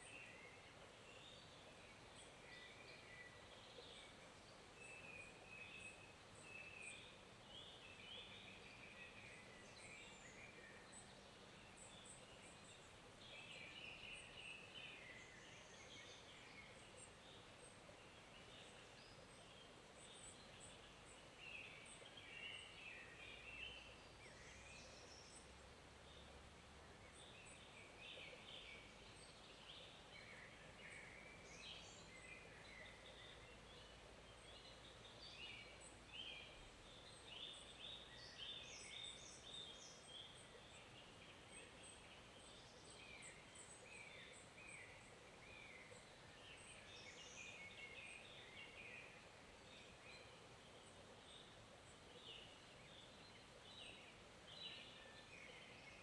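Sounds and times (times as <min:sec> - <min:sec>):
flowing stream hiss: 0:00.0 - 0:56.0.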